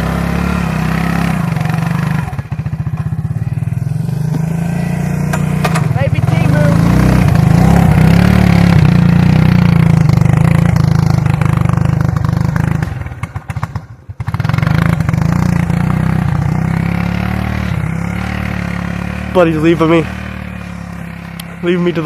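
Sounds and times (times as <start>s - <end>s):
atv engine running hard: 0.0s - 22.0s.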